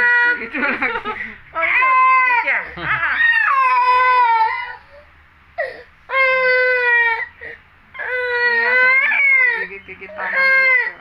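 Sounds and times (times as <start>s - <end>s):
baby crying: 1.6s - 11.0s.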